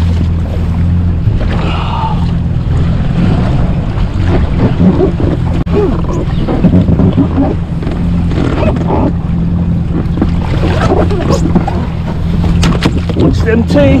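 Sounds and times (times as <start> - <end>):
jet ski engine idling: 0.0 - 14.0
water sloshing against hull: 0.0 - 14.0.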